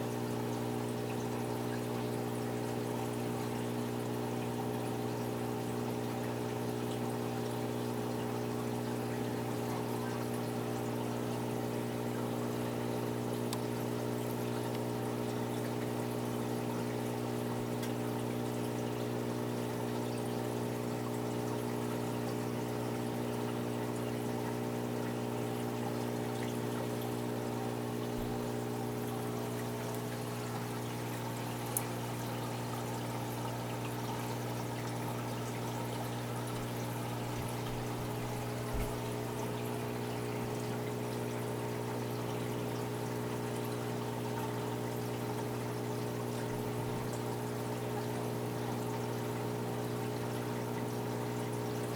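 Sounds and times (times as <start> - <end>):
filter pump motor hum: 0.0 - 51.9
water flowing into tank: 0.0 - 51.9.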